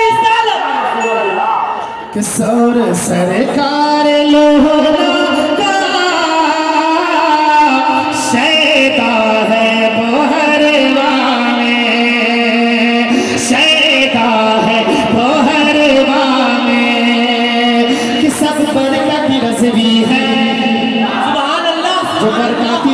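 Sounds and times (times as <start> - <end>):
man singing into a microphone: 1.1 - 22.9.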